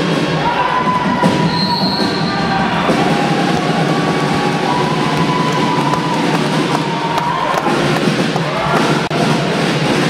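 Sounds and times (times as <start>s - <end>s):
loud steady din: 0.0s - 10.0s
music: 0.0s - 10.0s.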